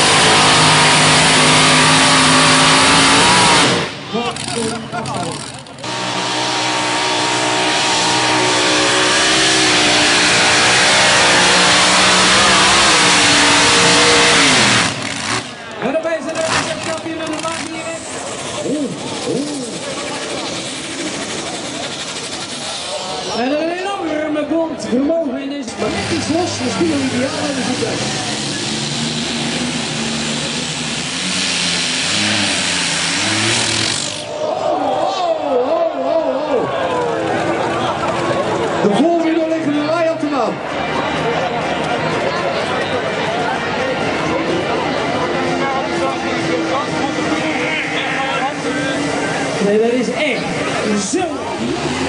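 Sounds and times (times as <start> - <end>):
pulling tractor engine at full throttle: 0.0 - 35.0, 36.6 - 52.0.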